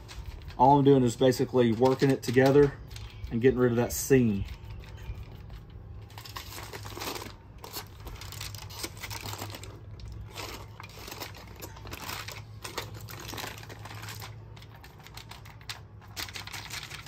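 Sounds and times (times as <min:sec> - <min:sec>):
aluminum foil crinkling: 0:00.0 - 0:17.0.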